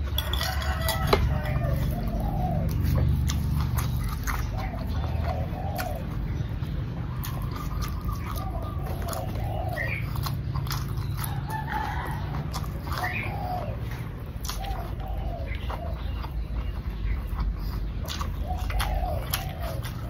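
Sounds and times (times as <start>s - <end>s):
animal calls: 0.0s - 20.0s
chewing and mouth clicks: 0.0s - 20.0s.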